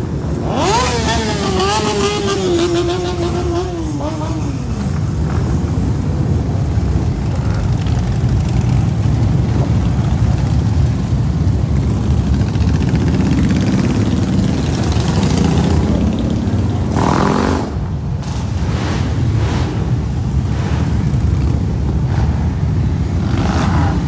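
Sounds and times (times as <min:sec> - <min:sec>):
motorcycles rumbling past: 0:00.3 - 0:05.8, 0:07.0 - 0:24.0.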